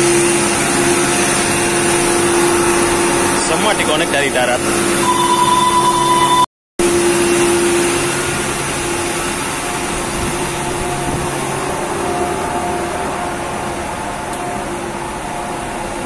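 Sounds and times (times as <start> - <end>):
engine room machinery hum: 0.0 - 16.0.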